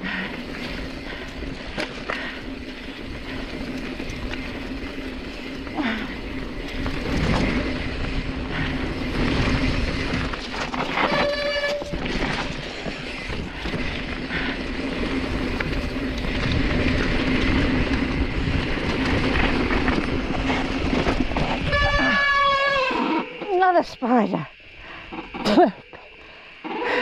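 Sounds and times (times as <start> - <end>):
bike tyres rumbling on rocky trail: 0.0 - 23.6.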